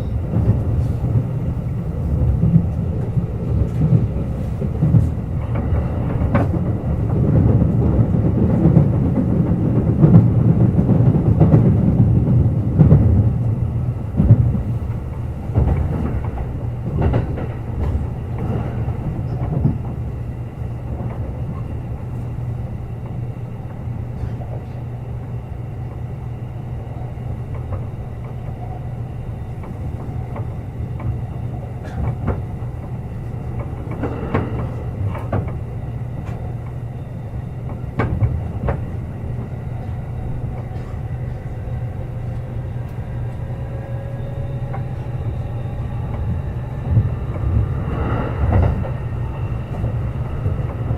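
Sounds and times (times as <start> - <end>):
wheels clacking over rail joints: 0.0 - 21.8, 27.4 - 50.9
electric train rumbling: 0.0 - 50.9.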